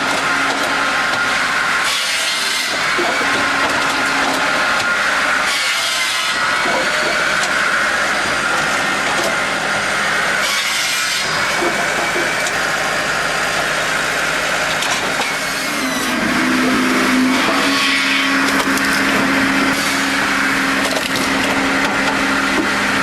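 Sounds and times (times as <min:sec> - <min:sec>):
power saw cutting wood: 0:00.0 - 0:23.0.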